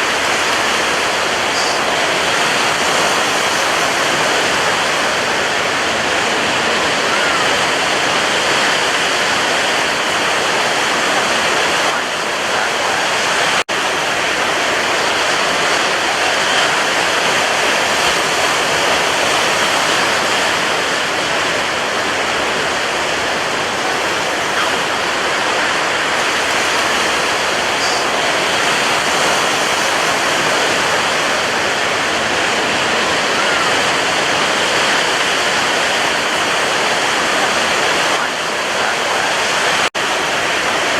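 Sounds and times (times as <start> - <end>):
waves breaking: 0.0 - 40.9.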